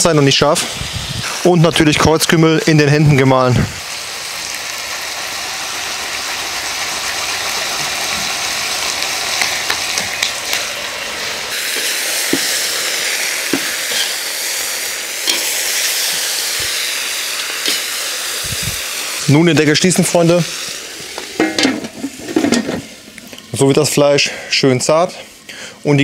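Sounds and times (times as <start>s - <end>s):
meat and vegetables sizzling: 0.0s - 26.0s.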